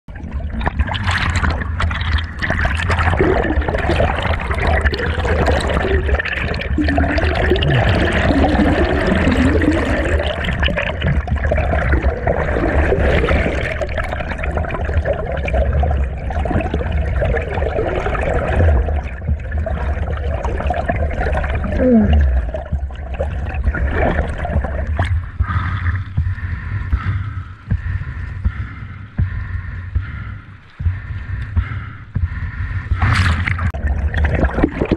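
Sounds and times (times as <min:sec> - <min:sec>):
heavy low rumble: 0:00.1 - 0:34.9
underwater stream rushing: 0:00.1 - 0:34.9.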